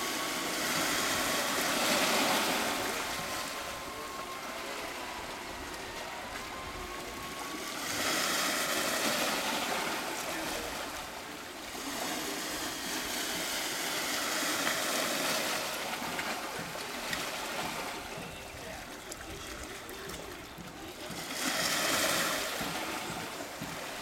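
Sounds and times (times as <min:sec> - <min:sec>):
small waves washing ashore: 0:00.0 - 0:24.0.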